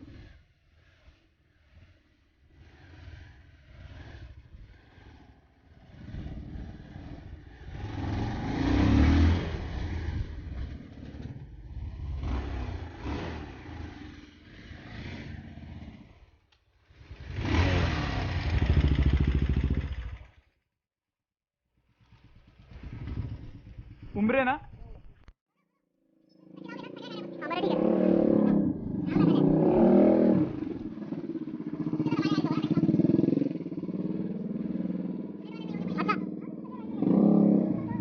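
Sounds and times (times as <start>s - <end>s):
motorcycle engines revving: 0.0s - 20.5s, 21.9s - 25.2s, 26.4s - 38.0s.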